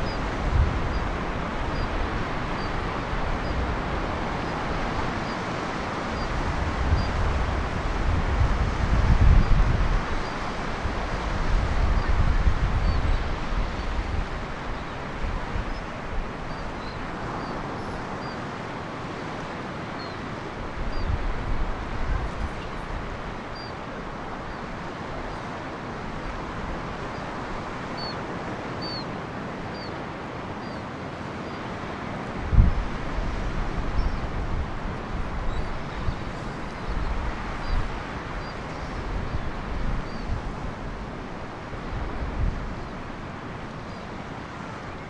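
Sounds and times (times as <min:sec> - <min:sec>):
wind buffeting microphone: 0:00.0 - 0:18.4, 0:19.1 - 0:25.2, 0:32.2 - 0:44.0
ocean surf breaking: 0:00.0 - 0:45.0.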